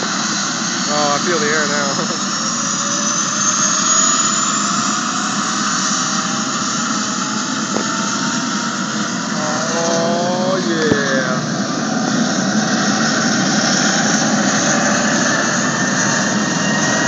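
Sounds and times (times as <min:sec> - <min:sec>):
helicopter turbine and rotor noise: 0:00.0 - 0:17.0.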